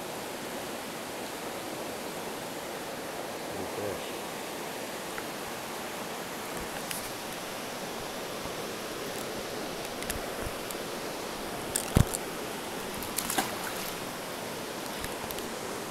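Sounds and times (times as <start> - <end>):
stream water over rocks: 0.0 - 15.9.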